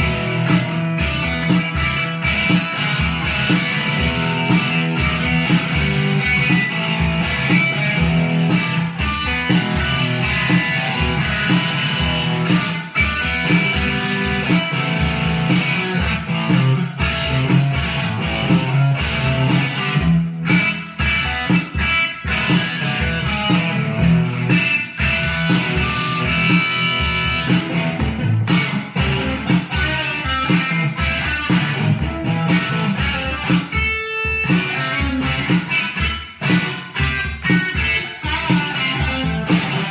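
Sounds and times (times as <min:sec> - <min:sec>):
guitar music with steady beat: 0:00.0 - 0:39.9.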